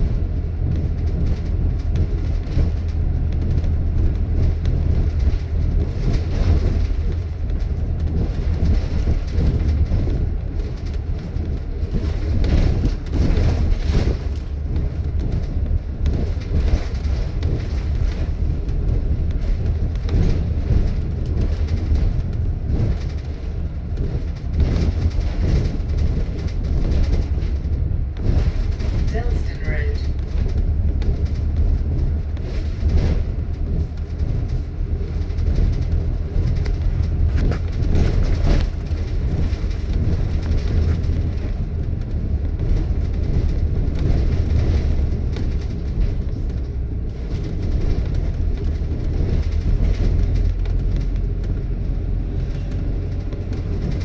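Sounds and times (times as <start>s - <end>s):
bus body rattling: 0.0s - 54.0s
bus engine and road rumble: 0.0s - 54.0s.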